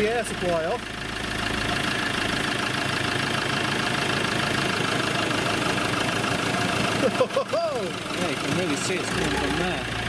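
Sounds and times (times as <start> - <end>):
diesel van engine idling: 0.0 - 10.0.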